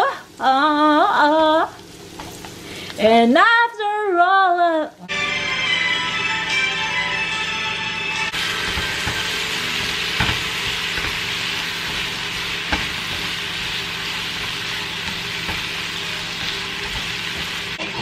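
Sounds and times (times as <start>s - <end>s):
food sizzling in frying pan: 0.0s - 5.9s, 8.2s - 18.0s.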